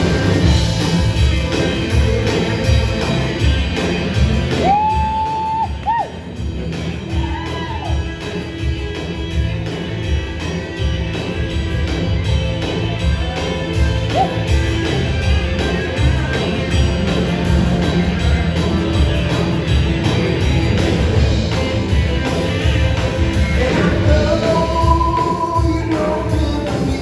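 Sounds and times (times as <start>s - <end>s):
live country band playing: 0.0s - 27.0s
sliding lead guitar line: 0.0s - 27.0s.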